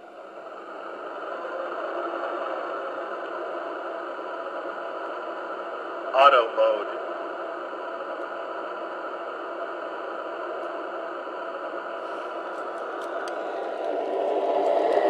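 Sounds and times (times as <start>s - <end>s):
model train hiss-like hum: 0.0s - 15.0s.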